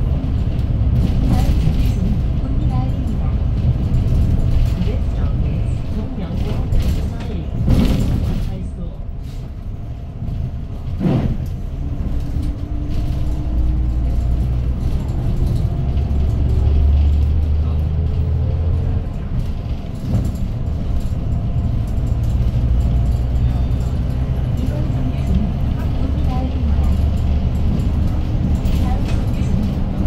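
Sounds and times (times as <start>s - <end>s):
bus engine accelerating: 0.0s - 30.0s.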